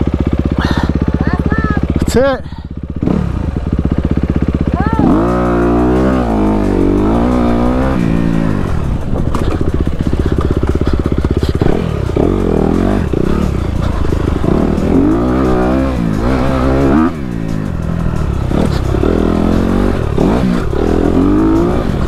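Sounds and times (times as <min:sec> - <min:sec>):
dirt bike accelerating: 0:00.0 - 0:22.0.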